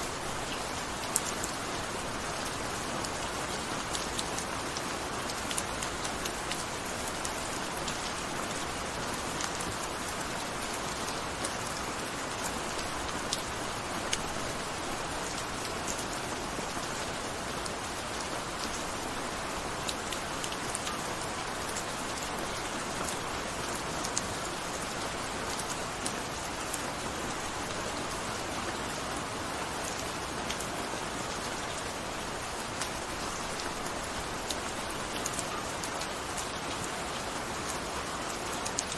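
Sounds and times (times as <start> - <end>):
gentle rain: 0.0 - 38.9
raindrops pattering on a surface: 0.0 - 38.9.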